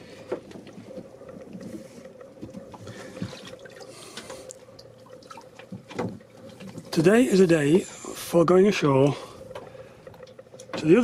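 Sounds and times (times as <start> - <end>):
faint steady hum: 0.0 - 11.0
water lapping against hull: 0.0 - 11.0.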